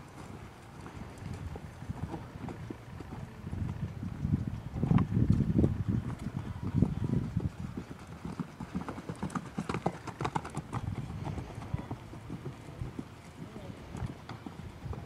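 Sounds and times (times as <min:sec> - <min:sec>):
horse hooves on dirt: 0:00.0 - 0:15.0.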